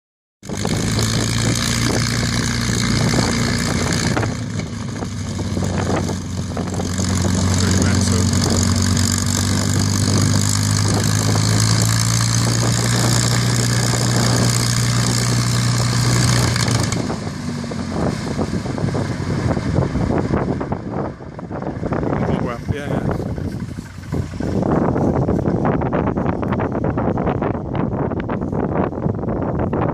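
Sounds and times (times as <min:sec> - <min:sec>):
aircraft engine deep drone: 0:00.4 - 0:29.9.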